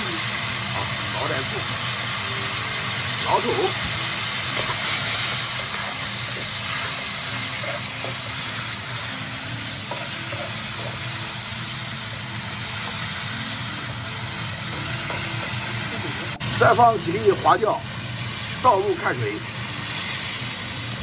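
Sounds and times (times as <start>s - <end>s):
meat sizzling in a wok: 0.0s - 21.0s.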